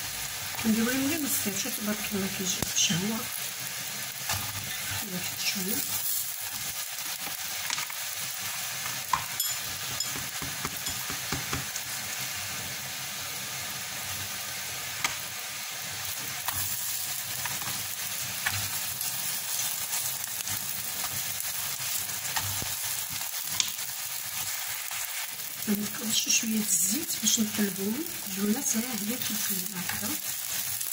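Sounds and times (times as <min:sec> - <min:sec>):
flatbreads sizzling in oil: 0:00.0 - 0:30.9.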